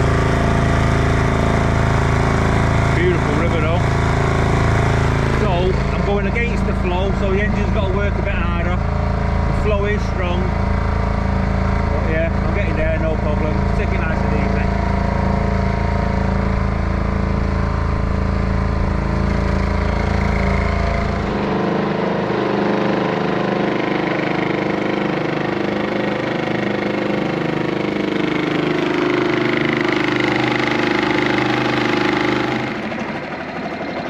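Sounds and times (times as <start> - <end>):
outboard motor running: 0.0 - 34.0.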